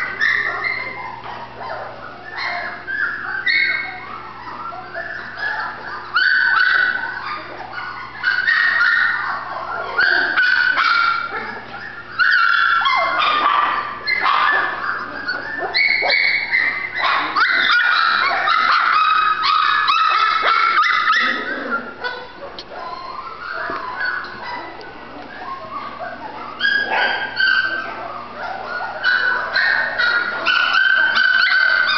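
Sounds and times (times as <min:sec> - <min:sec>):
puppy whining and yelping: 0:00.0 - 0:31.9.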